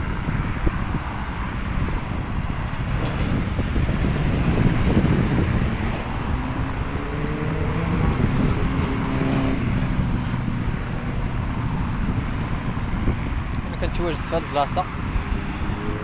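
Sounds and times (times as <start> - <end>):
low rumble of cars: 0.0 - 16.0
vehicle engine passing: 2.1 - 13.6, 14.7 - 16.0.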